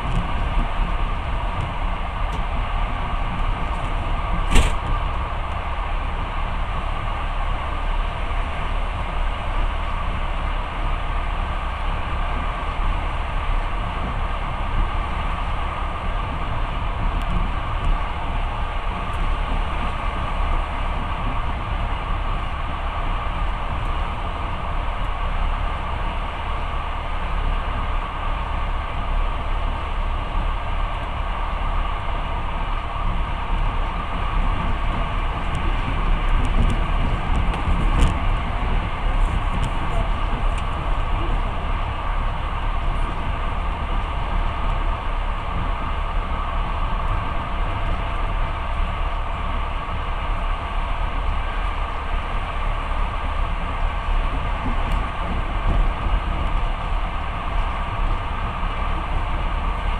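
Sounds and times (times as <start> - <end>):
train carriage rumbling on rails: 0.0 - 59.9.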